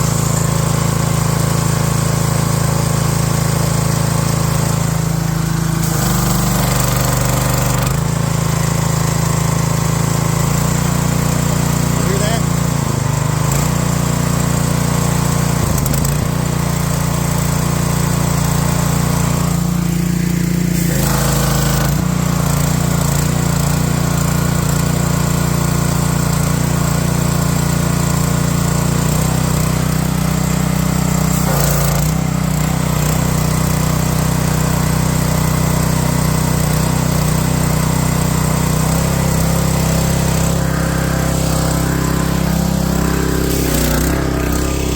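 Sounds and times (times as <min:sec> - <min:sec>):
small gasoline engine running: 0:00.0 - 0:44.9.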